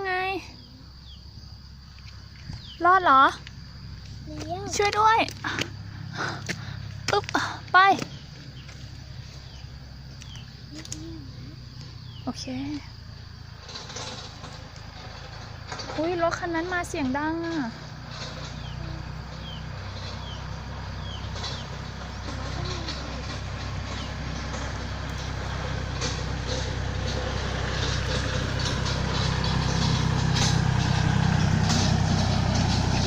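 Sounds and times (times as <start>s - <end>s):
vehicle engine hum: 0.0s - 33.0s.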